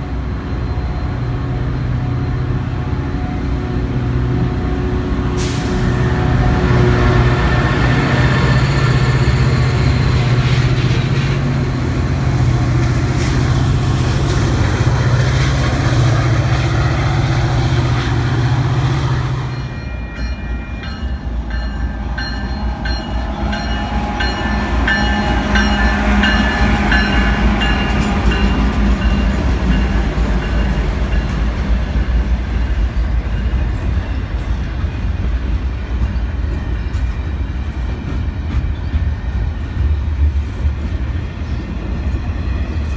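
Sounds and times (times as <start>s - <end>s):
train cars rolling over rails: 5.3s - 42.9s.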